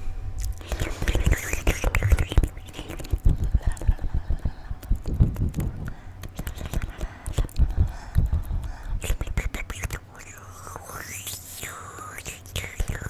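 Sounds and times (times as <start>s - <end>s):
lip smacks: 0.4s - 13.0s
wet tongue clicks: 0.4s - 13.0s.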